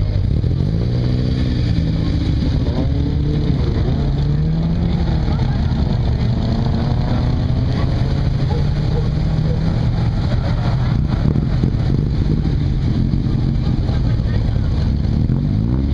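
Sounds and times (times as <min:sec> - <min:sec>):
car engines running at low revs: 0:00.0 - 0:15.9.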